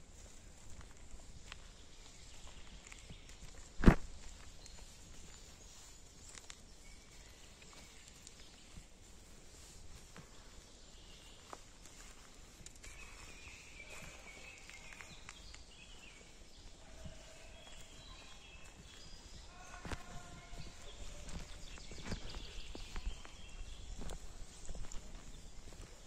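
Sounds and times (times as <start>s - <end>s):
footsteps on forest path: 0.0s - 26.0s
woodland ambience: 0.0s - 26.0s.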